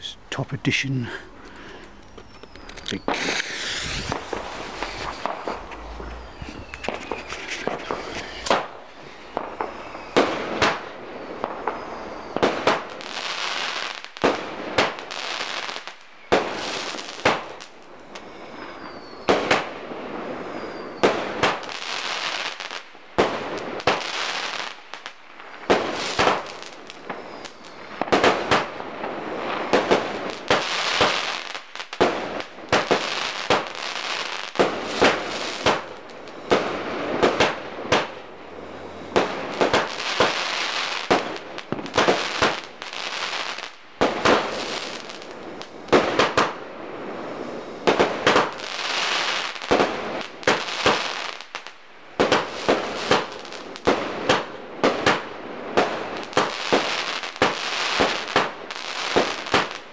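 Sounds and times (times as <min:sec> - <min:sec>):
continuous firework hiss: 0:00.0 - 0:59.9
firework bangs: 0:02.2 - 0:59.9.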